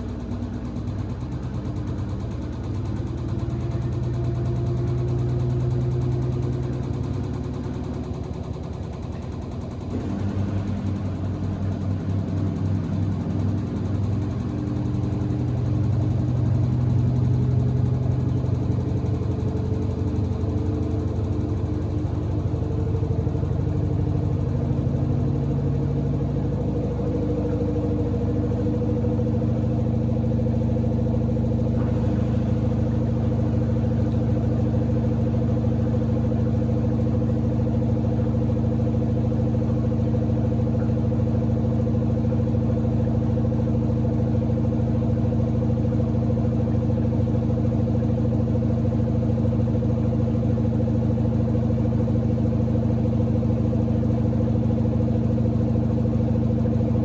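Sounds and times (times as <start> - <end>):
washer-dryer motor hum: 0.0 - 57.0.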